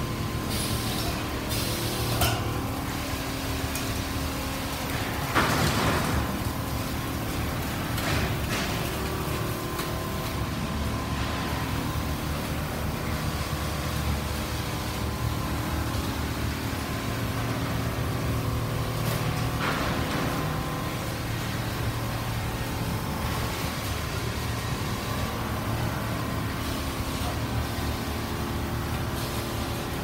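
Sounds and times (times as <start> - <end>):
quilting machines humming: 0.0 - 30.0.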